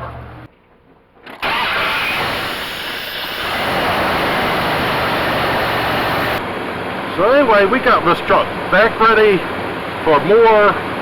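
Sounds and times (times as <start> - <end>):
truck engine running steadily: 0.0 - 0.5, 1.4 - 11.0
pickup truck engine starting: 1.3 - 11.0.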